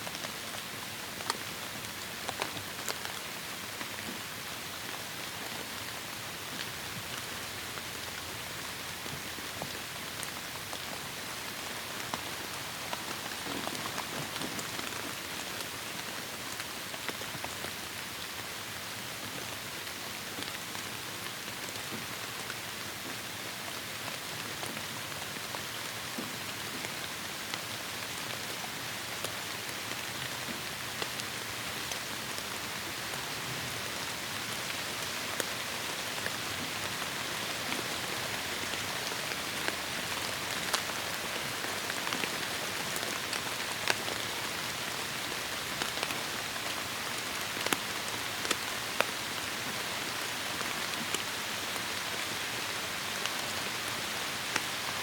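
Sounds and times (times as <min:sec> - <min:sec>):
heavy rain on forest canopy: 0:00.0 - 0:55.0.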